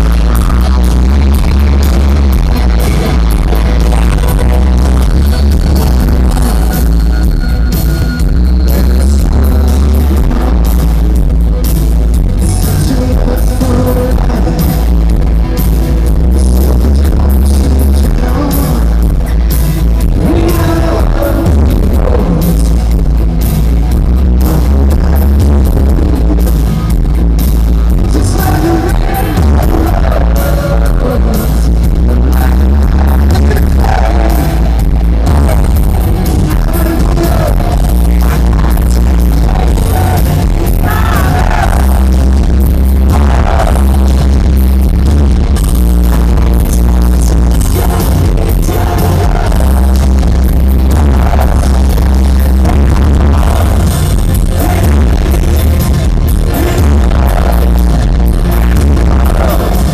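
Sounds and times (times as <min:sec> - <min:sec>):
man singing: 0:00.0 - 0:07.3, 0:08.2 - 0:11.2, 0:12.3 - 0:15.2, 0:16.0 - 0:23.0, 0:24.2 - 0:26.6, 0:28.0 - 0:44.4, 0:46.0 - 0:59.9
live rock band playing: 0:00.0 - 0:59.9.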